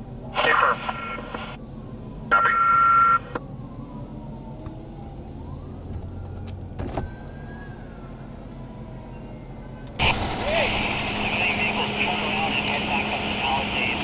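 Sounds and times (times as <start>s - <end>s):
faint siren wailing: 0.0s - 14.0s.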